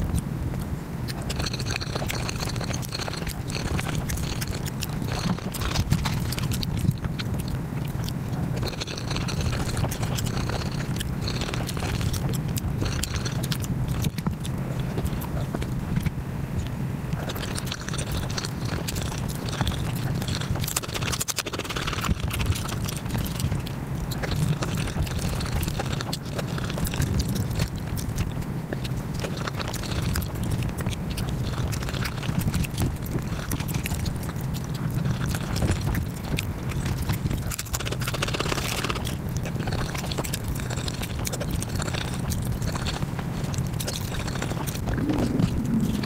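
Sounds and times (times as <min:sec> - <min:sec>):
sped-up chewing and biting: 0:00.0 - 0:46.0.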